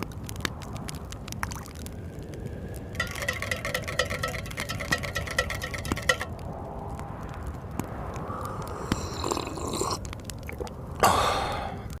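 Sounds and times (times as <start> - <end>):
low blizzard wind: 0.0 - 12.0
wood fire crackling: 0.0 - 12.0.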